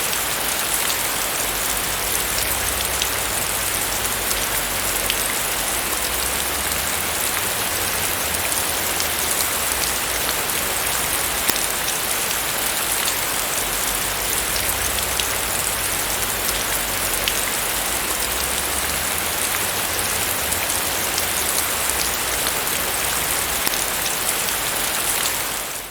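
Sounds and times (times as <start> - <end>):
heavy rain hissing: 0.0 - 25.9
raindrops ticking: 0.0 - 25.9.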